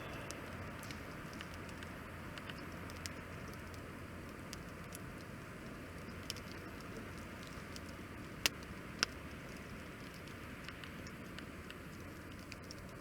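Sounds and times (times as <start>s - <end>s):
loud fire pops: 0.0s - 13.0s
wood fire crackling: 0.0s - 13.0s.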